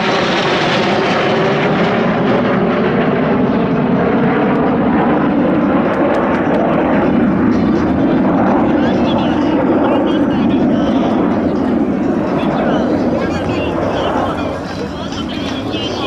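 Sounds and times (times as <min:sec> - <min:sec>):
jet aircraft flying overhead: 0:00.0 - 0:16.0.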